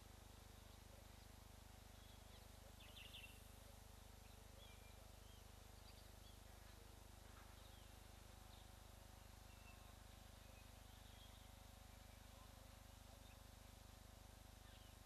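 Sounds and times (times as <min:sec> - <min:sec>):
faint bird chirps: 0:00.4 - 0:15.0.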